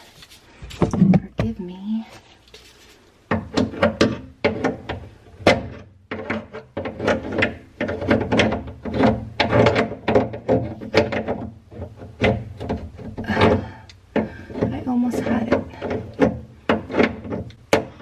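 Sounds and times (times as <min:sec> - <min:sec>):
hand tool scraping plastic pipe: 0:00.0 - 0:18.0.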